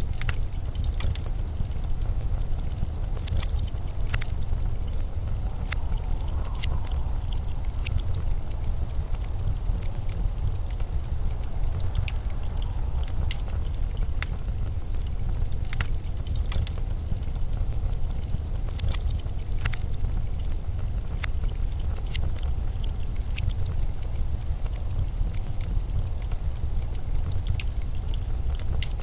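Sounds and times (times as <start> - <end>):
blizzard wind blowing: 0.0 - 28.5
sharp crackles: 0.0 - 29.0.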